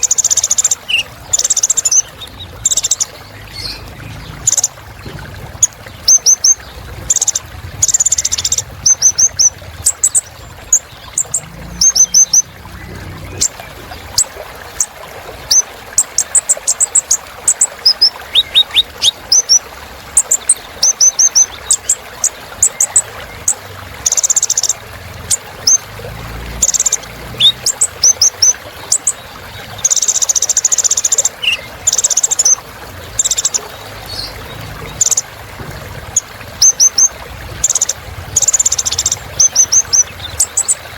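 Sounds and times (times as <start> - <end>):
sunbird singing: 0.0 - 14.9, 15.5 - 19.6, 20.2 - 24.8, 26.5 - 35.3, 36.2 - 40.9.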